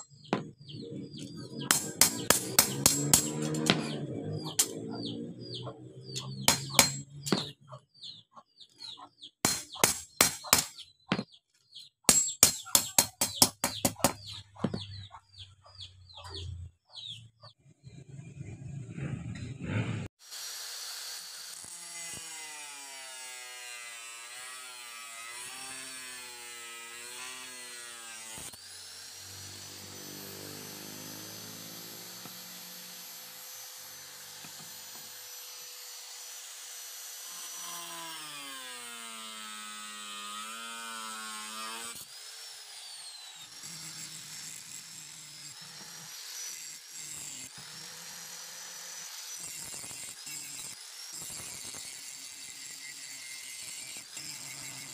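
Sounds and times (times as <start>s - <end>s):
angle grinder grinding steel: 0.0s - 8.2s, 8.8s - 15.4s, 20.3s - 54.9s.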